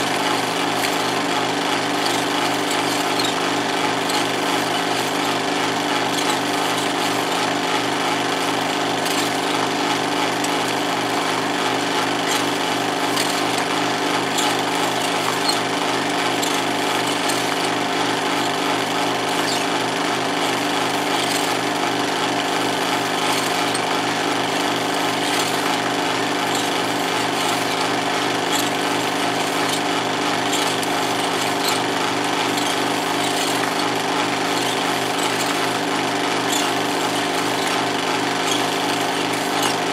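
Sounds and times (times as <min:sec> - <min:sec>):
film projector mechanical clatter: 0:00.0 - 0:39.9.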